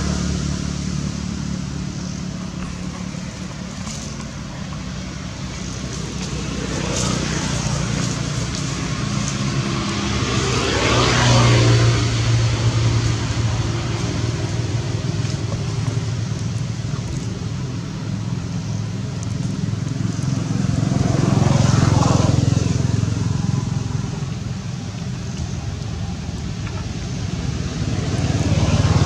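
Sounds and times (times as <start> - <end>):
vehicle engine passing: 0.0 - 29.0.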